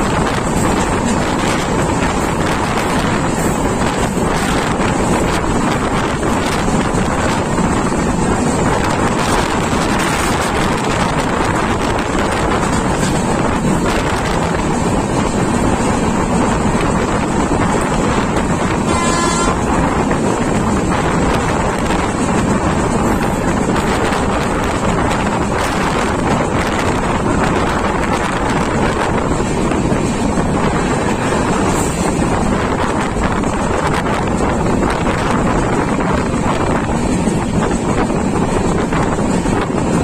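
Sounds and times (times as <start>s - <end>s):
moving train running noise: 0.0s - 40.0s
wind buffeting microphone: 0.0s - 40.0s.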